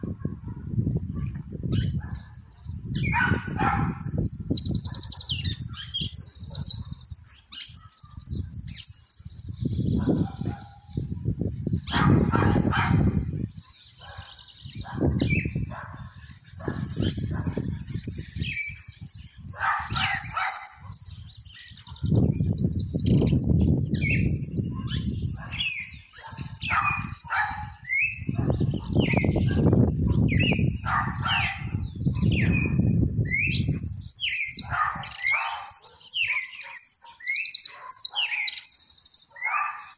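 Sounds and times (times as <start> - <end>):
finch singing trills: 0.5 - 12.1, 13.2 - 39.9.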